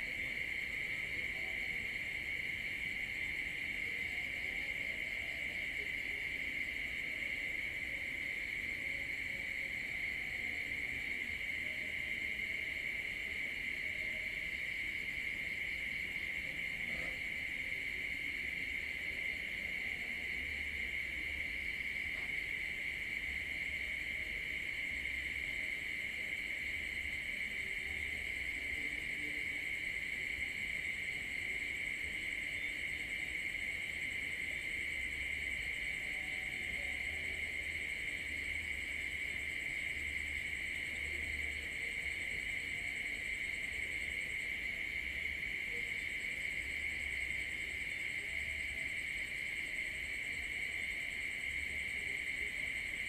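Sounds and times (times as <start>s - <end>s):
night insects chirring: 0.0s - 53.0s.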